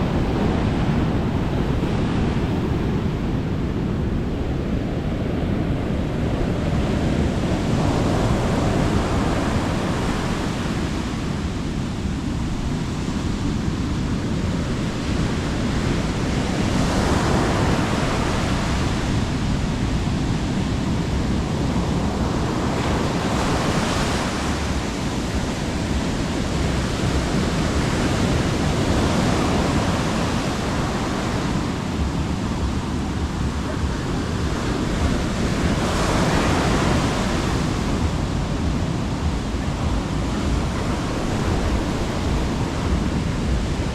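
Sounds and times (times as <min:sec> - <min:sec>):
sea waves breaking on beach: 0:00.0 - 0:43.9
wind buffeting microphone: 0:00.0 - 0:43.9.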